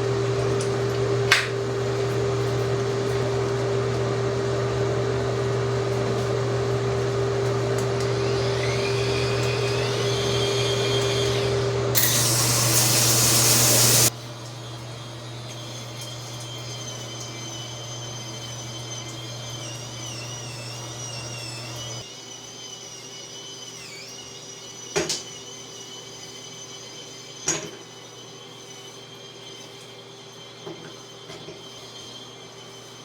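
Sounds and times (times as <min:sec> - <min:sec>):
spin scrubber motor whine: 0:00.0 - 0:33.0.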